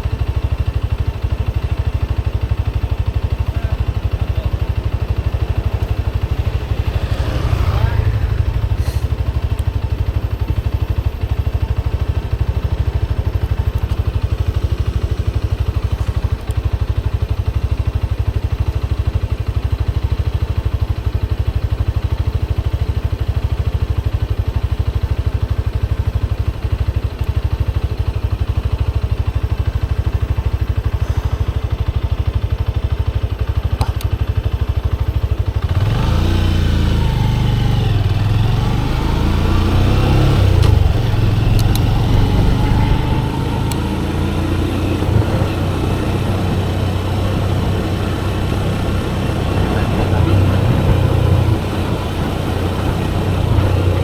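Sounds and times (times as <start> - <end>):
motorcycle engine running at low revs: 0.0 - 54.0.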